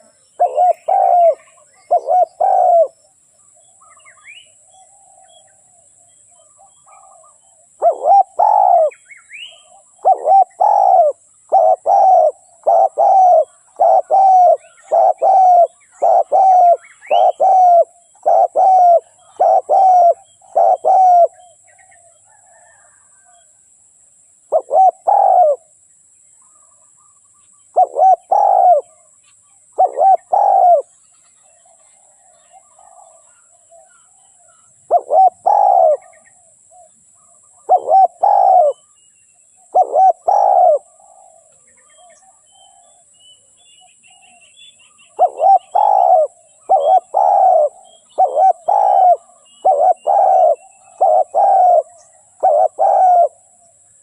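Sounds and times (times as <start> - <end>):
dove cooing: 0.0 - 3.0, 6.4 - 23.4, 24.5 - 25.7, 27.7 - 29.1, 29.8 - 31.0, 31.6 - 38.9, 39.6 - 43.1, 45.1 - 54.0
small birds chirping: 0.0 - 23.5, 24.4 - 25.7, 26.3 - 54.0.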